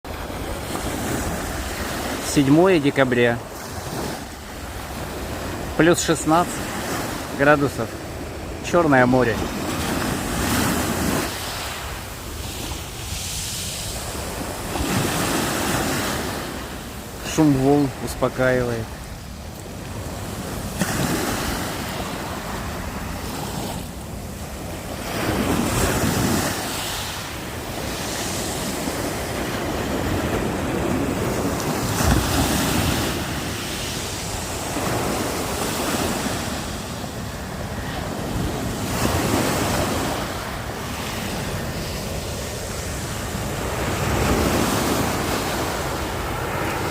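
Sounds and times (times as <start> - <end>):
waves washing onto shore: 0.1 - 46.9.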